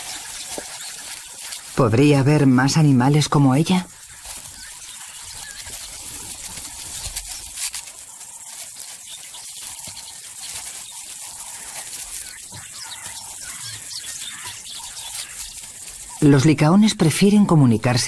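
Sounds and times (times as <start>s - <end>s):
rustles: 0.0s - 18.0s.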